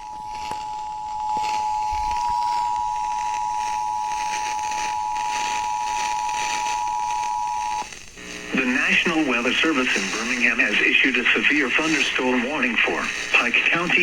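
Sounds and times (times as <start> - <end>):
broadcast reception hiss: 0.0 - 14.0.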